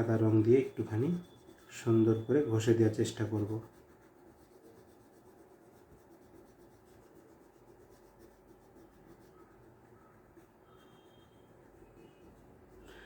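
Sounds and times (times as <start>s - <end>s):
scratching on drawing paper: 0.0s - 13.0s.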